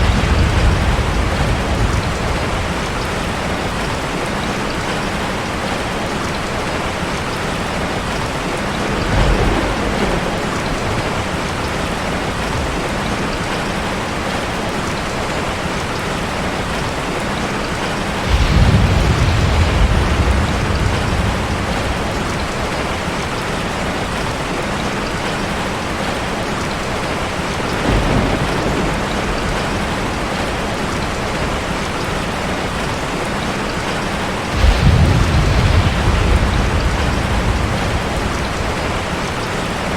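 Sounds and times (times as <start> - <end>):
cascading water rushing: 0.0 - 39.9.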